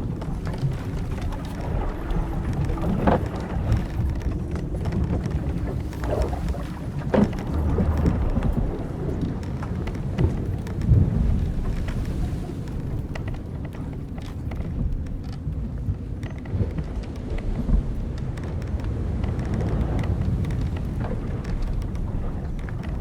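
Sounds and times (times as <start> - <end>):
low rumble of wind and sea: 0.0 - 23.0
ship timbers and rigging creaking: 0.0 - 23.0.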